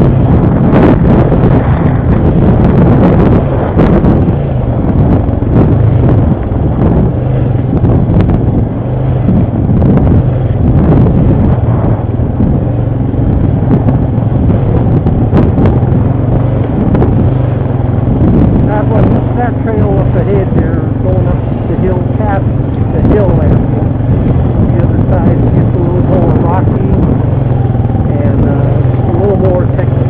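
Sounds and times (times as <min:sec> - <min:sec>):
atv engine running: 0:00.0 - 0:30.0
wind on microphone: 0:00.0 - 0:30.0.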